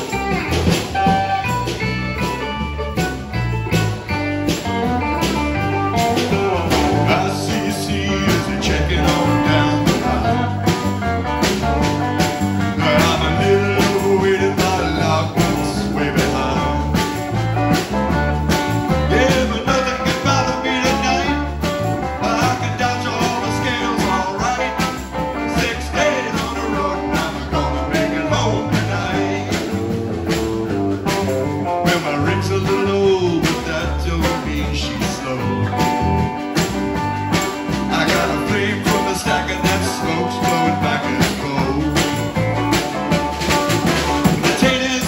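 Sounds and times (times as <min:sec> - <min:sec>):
country-rock band music: 0:00.0 - 0:45.0.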